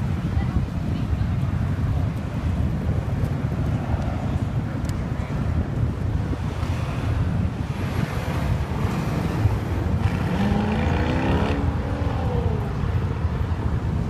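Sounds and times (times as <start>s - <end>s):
traffic rumble: 0.0s - 14.0s
wind on microphone: 0.0s - 14.0s.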